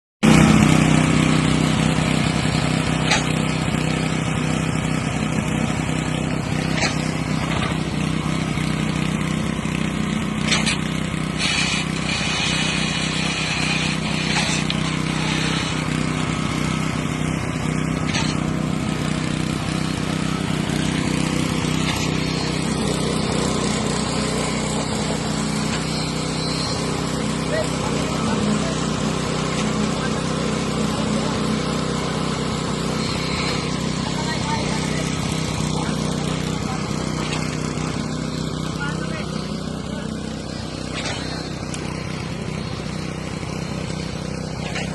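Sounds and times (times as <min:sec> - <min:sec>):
diesel engine running under load: 0:00.2 - 0:44.9.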